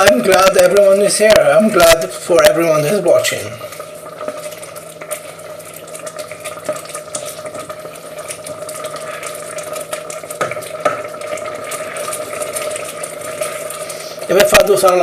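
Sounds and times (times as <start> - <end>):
background hum: 0.0 - 15.0
rice bubbling in a pan: 0.0 - 15.0.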